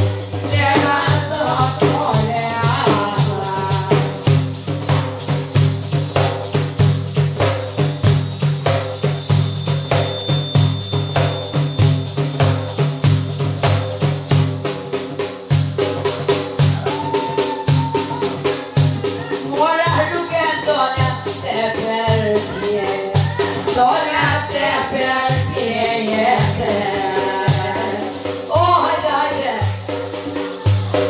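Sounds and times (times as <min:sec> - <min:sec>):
frame drum with jingles: 0:00.0 - 0:31.0.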